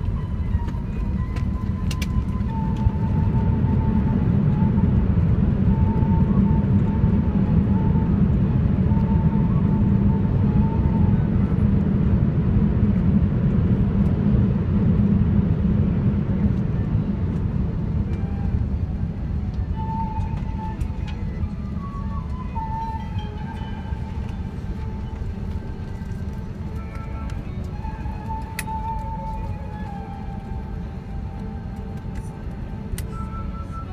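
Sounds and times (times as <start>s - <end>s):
aircraft cabin rumble: 0.0s - 33.9s.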